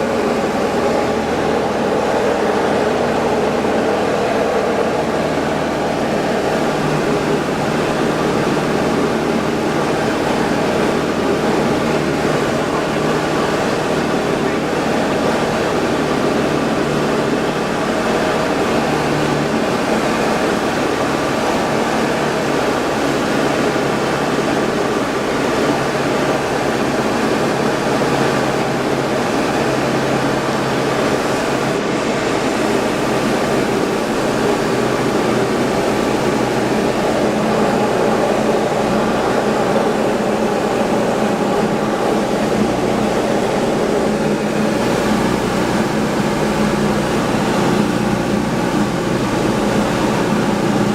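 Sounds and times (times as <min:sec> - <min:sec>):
aircraft engine and propeller drone: 0:00.0 - 0:50.9.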